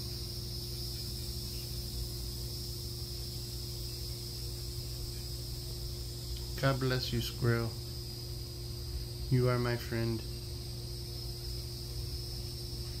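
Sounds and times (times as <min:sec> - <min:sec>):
insect chirring: 0:00.0 - 0:13.0
low steady hum: 0:00.0 - 0:13.0.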